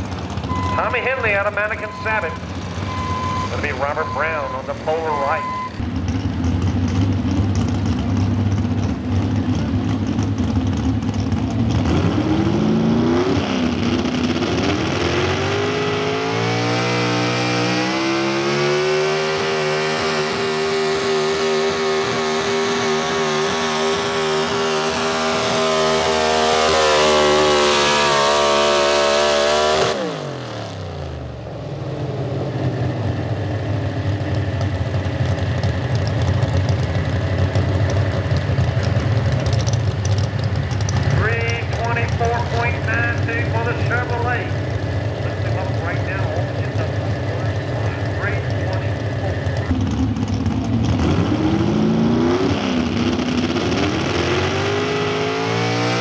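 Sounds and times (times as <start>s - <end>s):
pulling truck engine revving: 0.0s - 56.0s.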